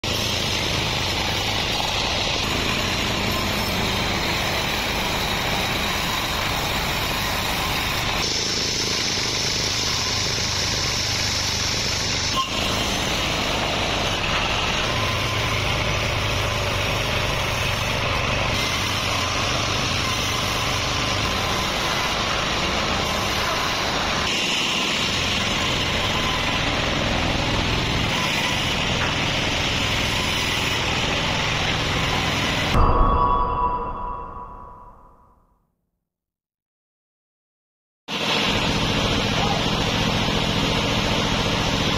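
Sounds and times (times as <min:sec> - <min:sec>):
band saw machinery drone: 0:00.0 - 0:33.2, 0:38.1 - 0:41.9
higher mechanical whine: 0:00.0 - 0:35.0.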